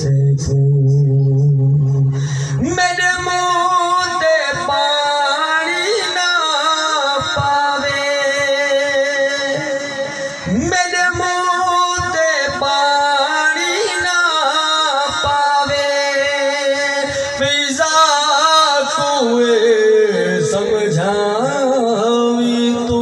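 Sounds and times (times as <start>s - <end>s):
man chanting a lament: 0.0s - 23.0s.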